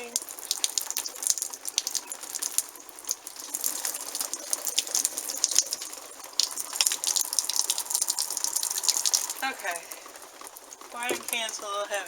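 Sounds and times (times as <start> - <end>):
water splashing onto fabric: 0.0 - 12.0.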